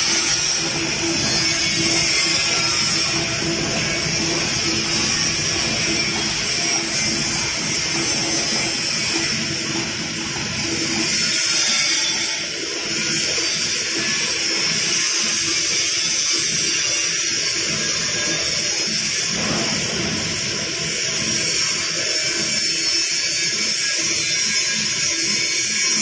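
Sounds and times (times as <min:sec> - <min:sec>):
packing machine hissing and whirring: 0:00.0 - 0:26.0.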